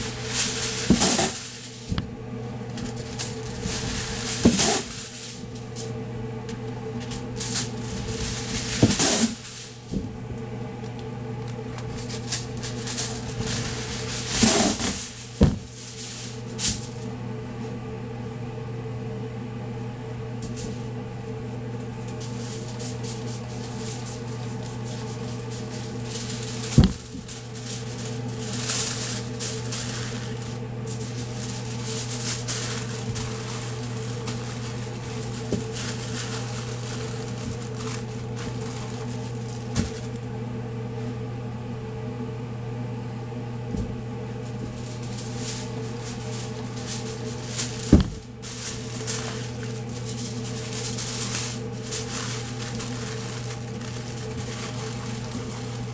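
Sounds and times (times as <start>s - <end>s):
aluminium foil crinkling: 0.0s - 2.0s, 2.6s - 10.0s, 10.8s - 17.1s, 21.8s - 40.3s, 44.4s - 55.9s
steady electrical hum: 0.0s - 55.9s.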